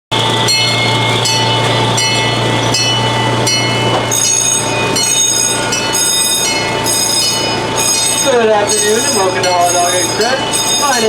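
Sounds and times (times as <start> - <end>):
high ringing tones: 0.1 - 11.0.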